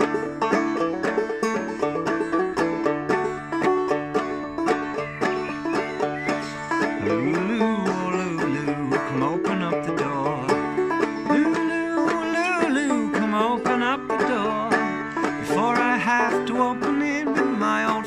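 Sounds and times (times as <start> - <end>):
banjo playing: 0.0 - 18.0.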